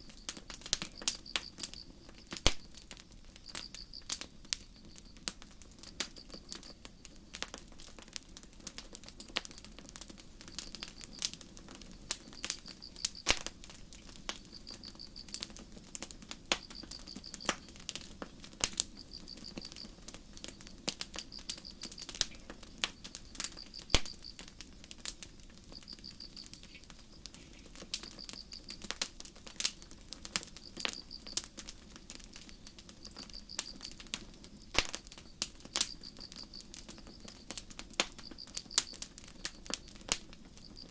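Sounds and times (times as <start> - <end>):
crickets chirping: 0.0 - 7.5, 10.2 - 15.6, 16.2 - 17.9, 18.7 - 29.1, 29.8 - 40.9
campfire crackling and popping: 0.0 - 40.9
low rush of burning wood: 0.0 - 40.9.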